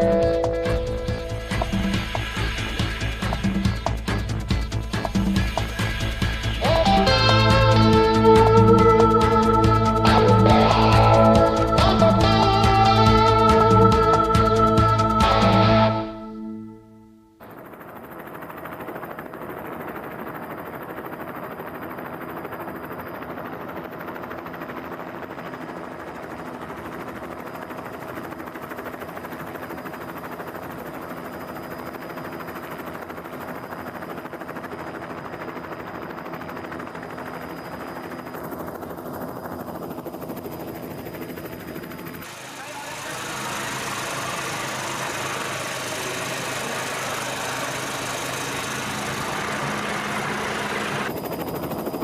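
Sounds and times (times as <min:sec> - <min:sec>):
steady mechanical drone: 0:00.0 - 0:20.4, 0:30.2 - 0:52.0.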